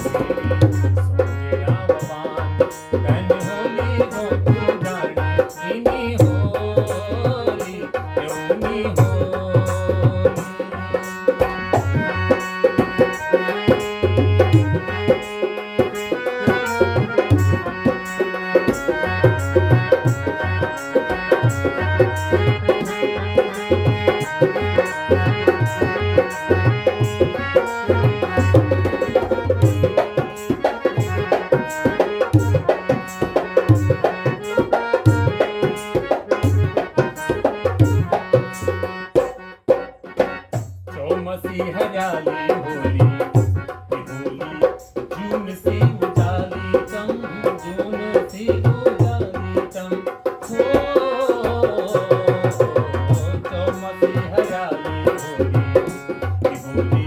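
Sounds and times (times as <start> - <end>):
dholak drum rhythm: 0.0 - 57.0
harmonium melody: 0.0 - 57.0.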